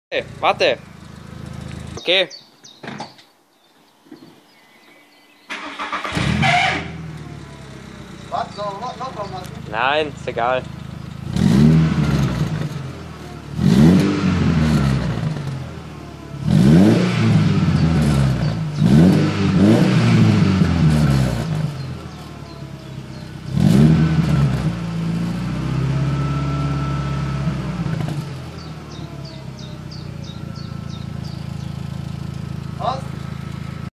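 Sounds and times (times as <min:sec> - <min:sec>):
car engine revving: 0:00.2 - 0:02.0, 0:05.5 - 0:33.9.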